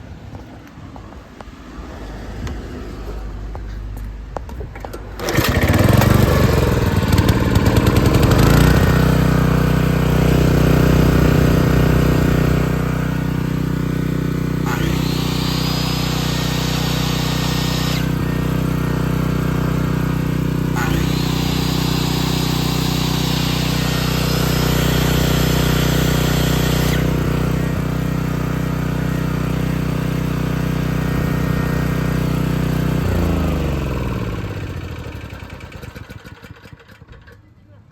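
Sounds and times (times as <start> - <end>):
generator engine running: 4.2 - 37.4.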